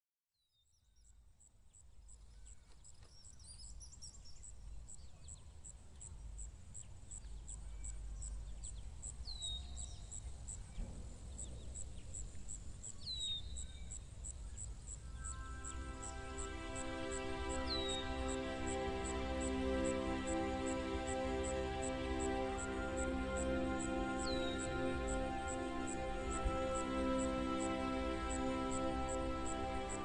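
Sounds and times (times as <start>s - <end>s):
high insect chirp: 1.4s - 30.0s.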